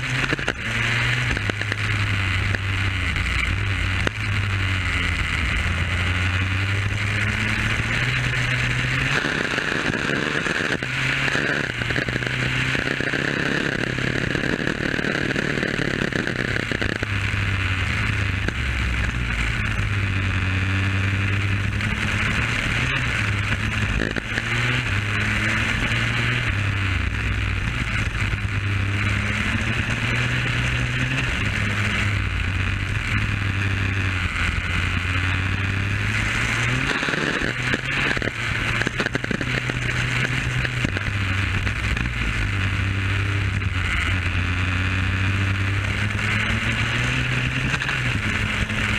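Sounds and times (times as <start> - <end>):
two-stroke kart engine revving: 0.0 - 48.9.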